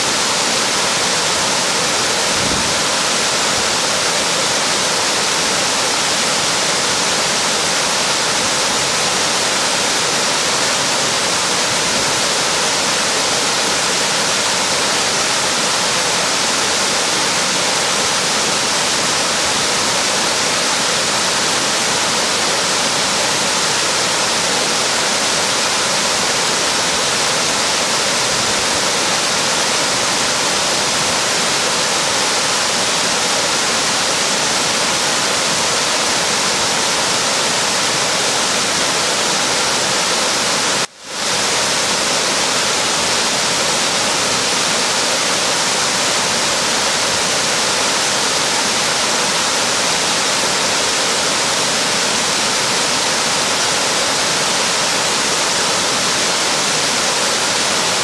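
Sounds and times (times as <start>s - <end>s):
waterfall rushing over boulders: 0.0s - 58.0s.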